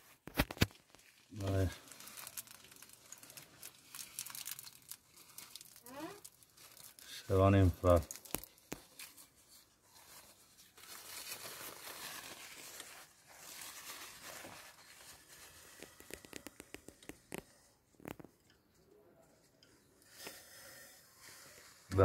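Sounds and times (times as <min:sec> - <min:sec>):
plastic bag crinkling: 0:00.3 - 0:18.3.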